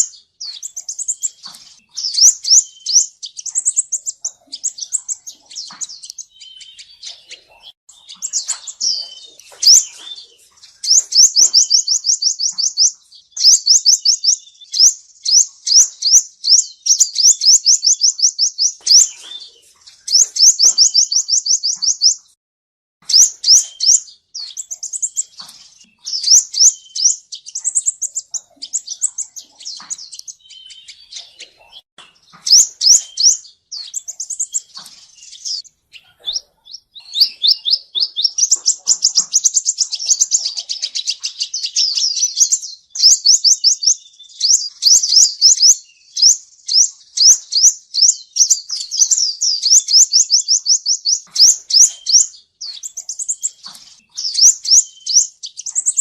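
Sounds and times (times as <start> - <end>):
sunbird singing: 0.0 - 22.4, 23.0 - 56.0.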